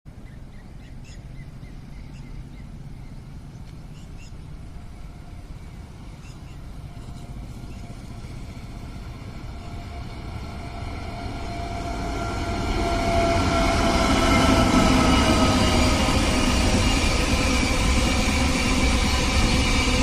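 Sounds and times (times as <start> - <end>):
locomotive whine: 0.1 - 20.0
train rumble: 0.1 - 20.0.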